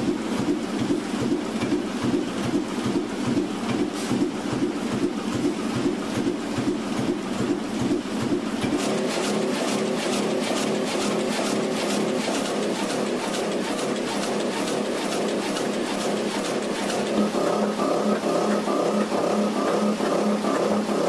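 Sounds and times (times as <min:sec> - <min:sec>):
printing press clatter: 0:00.0 - 0:21.0.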